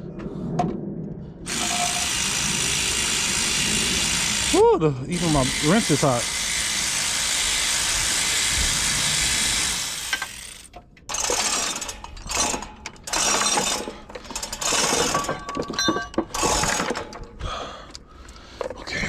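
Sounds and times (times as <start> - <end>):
ratcheting metal-on-metal bursts: 1.5 - 17.4
cordless power wrench running: 1.5 - 19.0.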